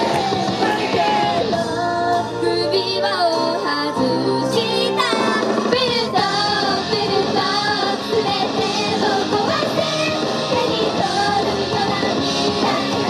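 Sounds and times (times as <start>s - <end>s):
girl singing: 0.0s - 13.0s
synth and rock backing track: 0.0s - 13.0s.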